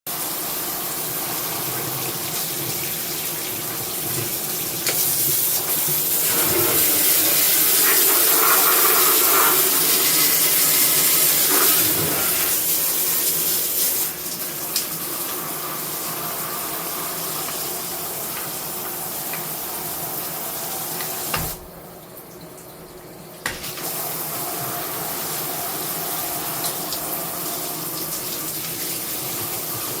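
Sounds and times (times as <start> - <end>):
shower spraying water: 0.1 - 21.8, 23.4 - 30.0.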